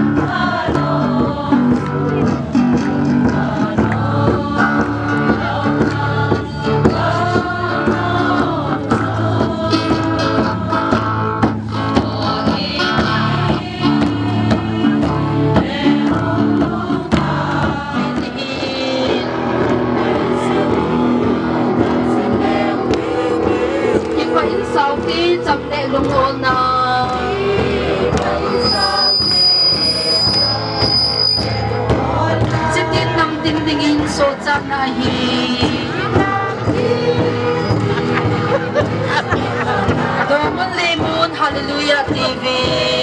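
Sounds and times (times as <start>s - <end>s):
group singing: 0.0s - 43.0s.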